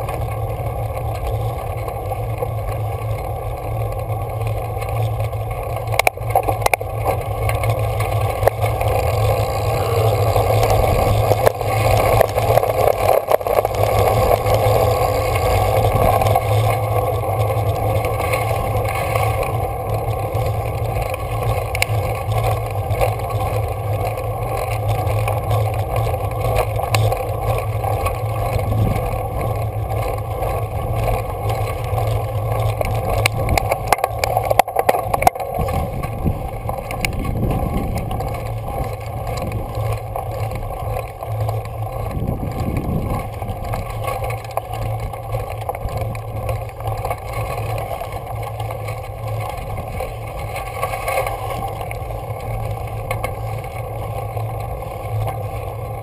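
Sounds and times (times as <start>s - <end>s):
bike tyres on gravel: 0.0s - 56.0s
wind rumble: 0.0s - 56.0s.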